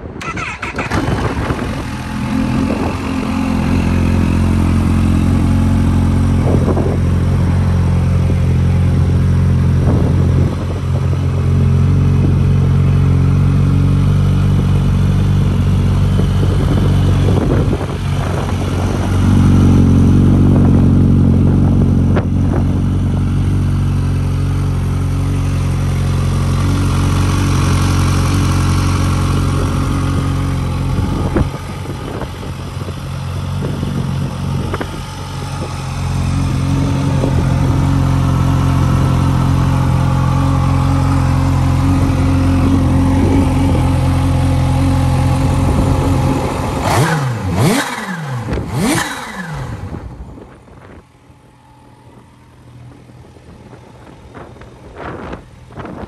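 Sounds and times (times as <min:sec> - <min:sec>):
motorcycle engine idling: 0:00.1 - 0:56.0.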